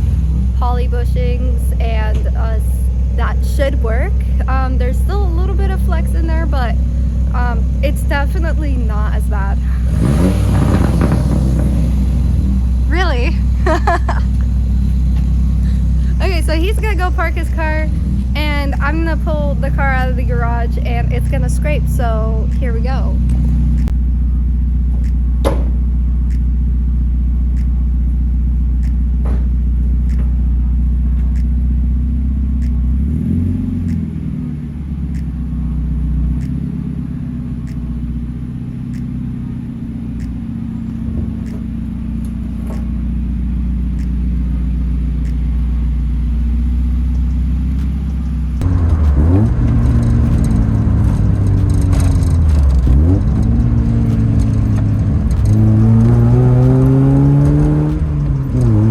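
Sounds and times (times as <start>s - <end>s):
car engine idling and revving: 0.0s - 58.9s.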